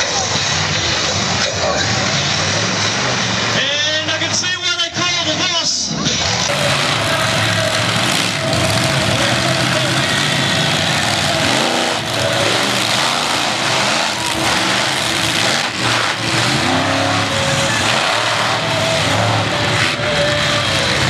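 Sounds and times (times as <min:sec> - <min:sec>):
monster truck engines revving: 0:00.0 - 0:21.0.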